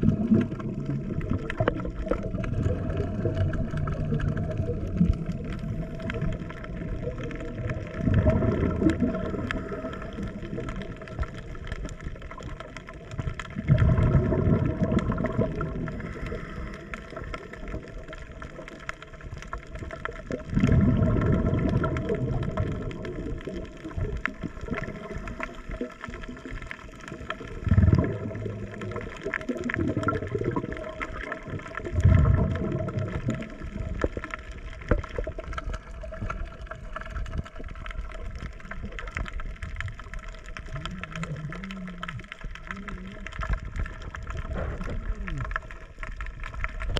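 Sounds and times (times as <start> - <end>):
bubbles gurgling underwater: 0.0 - 46.9
steady underwater hum: 0.0 - 46.9.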